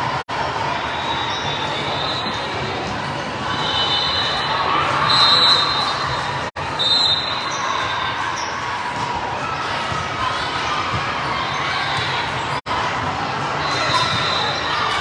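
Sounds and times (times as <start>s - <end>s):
crowd chatter in a large hall: 0.0s - 15.0s.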